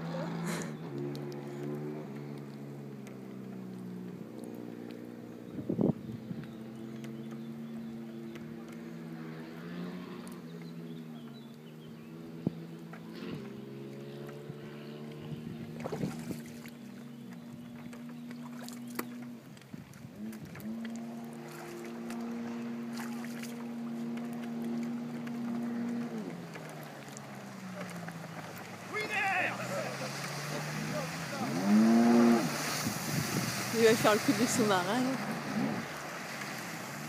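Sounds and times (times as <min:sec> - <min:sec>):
jet ski engine: 0:00.0 - 0:37.0.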